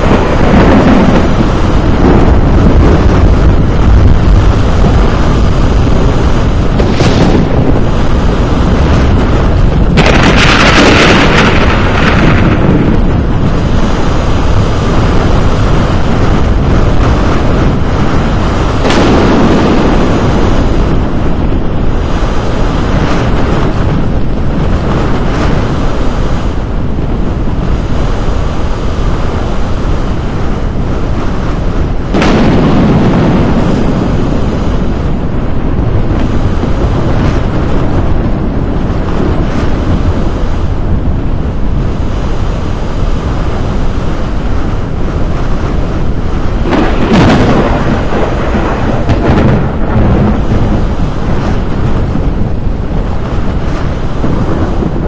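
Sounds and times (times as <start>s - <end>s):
storm wind buffeting microphone: 0.0s - 55.0s.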